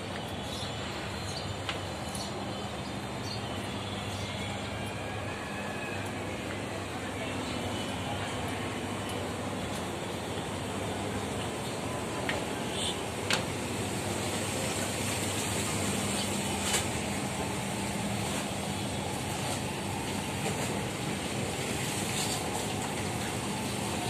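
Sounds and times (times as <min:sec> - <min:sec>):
boat machinery rumble and hiss: 0:00.0 - 0:24.0.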